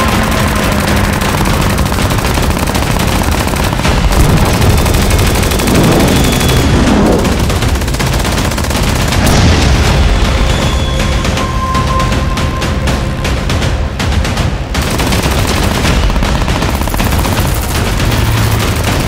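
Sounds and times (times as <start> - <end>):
machine-gun fire: 0.0 - 10.8, 14.2 - 19.0.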